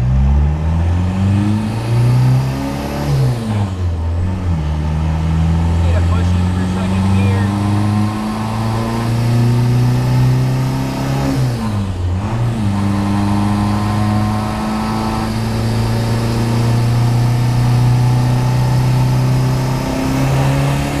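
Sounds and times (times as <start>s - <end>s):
car engine drone from cabin: 0.0s - 21.0s.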